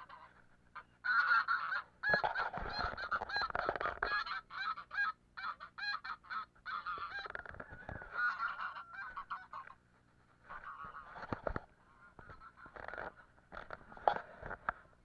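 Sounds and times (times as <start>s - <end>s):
geese honking: 0.0s - 9.8s, 10.5s - 14.2s.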